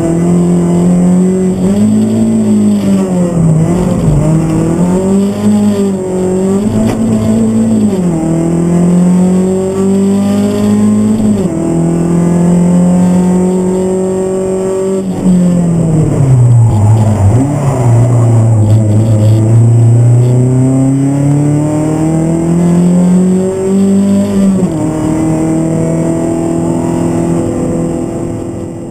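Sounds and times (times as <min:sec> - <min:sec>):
car engine at high revs: 0:00.0 - 0:28.9.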